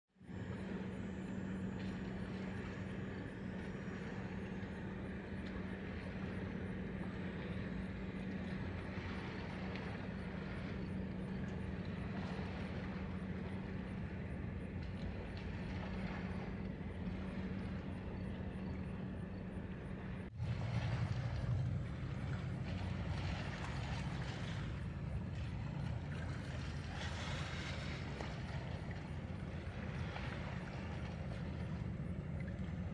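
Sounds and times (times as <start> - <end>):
ship engines humming: 0.2 - 32.9
water wash: 0.3 - 32.9.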